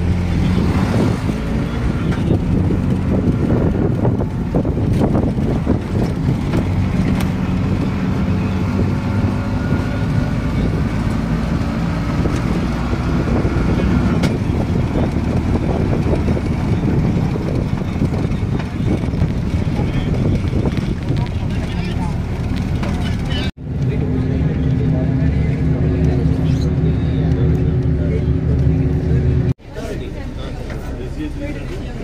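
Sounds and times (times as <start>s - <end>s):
engine drone: 0.0s - 32.0s.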